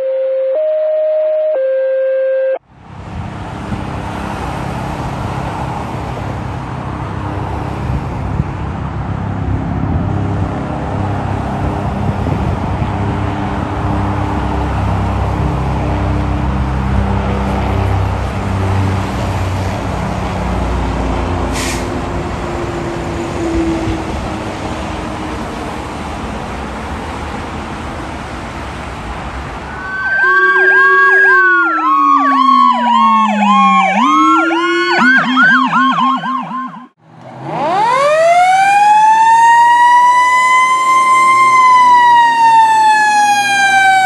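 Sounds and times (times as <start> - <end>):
highway traffic: 2.6 - 44.0
fire engine driving past: 2.7 - 44.0.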